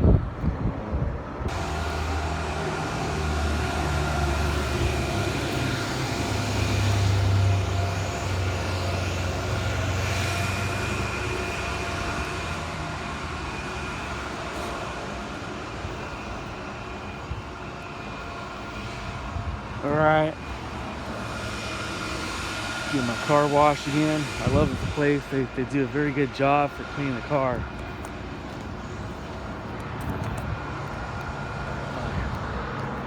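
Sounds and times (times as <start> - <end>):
vehicle engine droning: 1.4 - 33.0.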